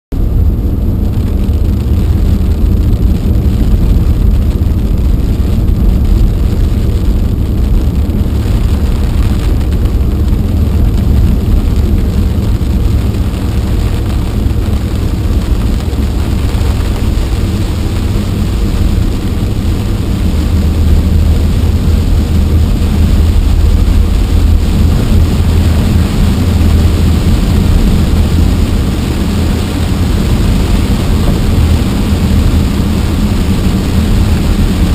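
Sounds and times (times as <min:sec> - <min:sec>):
car driving on wet road: 0:00.1 - 0:34.9
hiss of rain and spray: 0:00.2 - 0:34.9.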